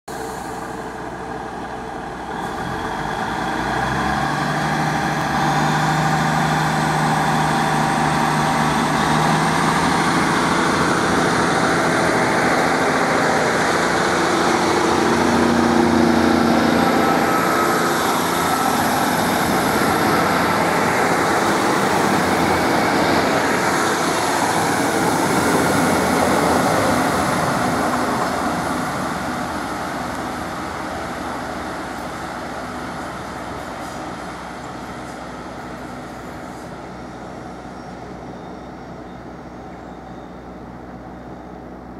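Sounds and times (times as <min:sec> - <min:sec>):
diesel train engines revving: 0:00.1 - 0:41.9
train wheels on rails: 0:00.1 - 0:41.9.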